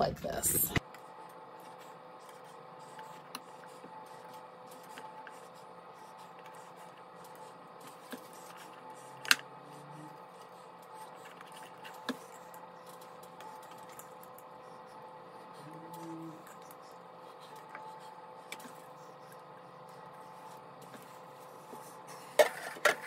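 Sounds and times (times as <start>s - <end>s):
faint hum: 0.0s - 23.0s.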